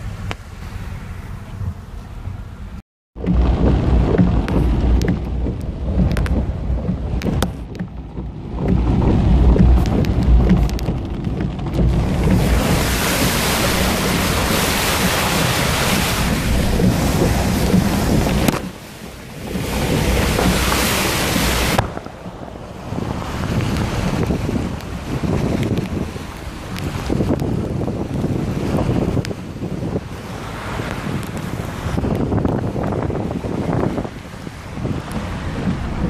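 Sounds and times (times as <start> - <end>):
low rumble: 0.0 - 29.3, 34.5 - 36.0
water spraying against car: 0.0 - 36.0
wind buffeting microphone: 3.2 - 36.0.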